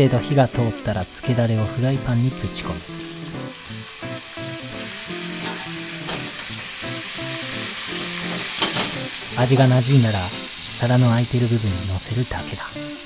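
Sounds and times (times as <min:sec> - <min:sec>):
food sizzling in frying pan: 0:00.0 - 0:13.0
liquid hissing in hot pan: 0:00.4 - 0:13.0.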